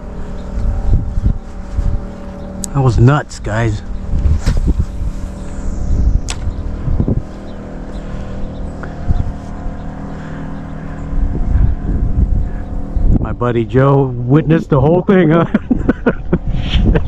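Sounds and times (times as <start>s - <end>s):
engine running: 0.0s - 17.0s
low rumble: 0.0s - 17.0s.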